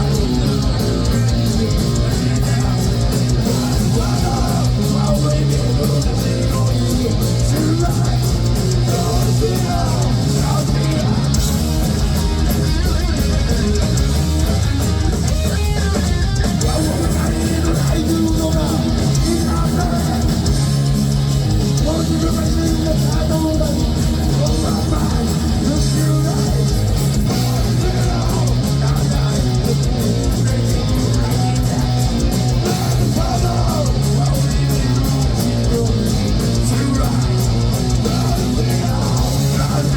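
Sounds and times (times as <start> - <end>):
person singing: 0.0 - 11.8, 16.6 - 39.9
bass and drums: 0.0 - 39.9
distorted electric guitars: 0.0 - 39.9.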